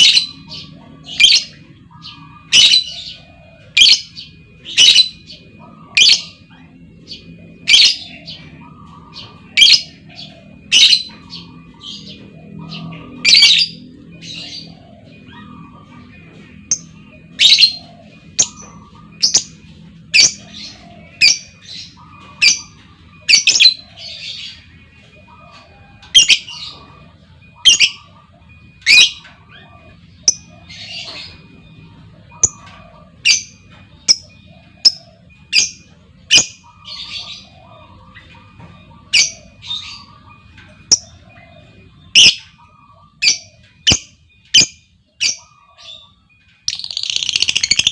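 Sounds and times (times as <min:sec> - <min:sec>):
lovebird high-pitched calls: 0:00.0 - 0:24.7, 0:25.5 - 0:31.7, 0:32.3 - 0:47.9.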